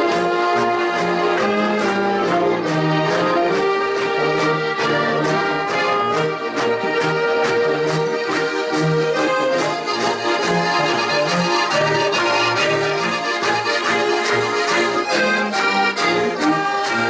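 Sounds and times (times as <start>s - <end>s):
button accordions playing folk music: 0.0s - 17.0s.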